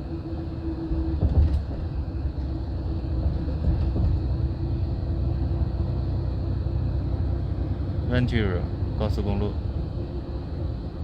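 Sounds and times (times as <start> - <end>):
droning hum: 0.0 - 11.0
engine and road rumble: 0.0 - 11.0.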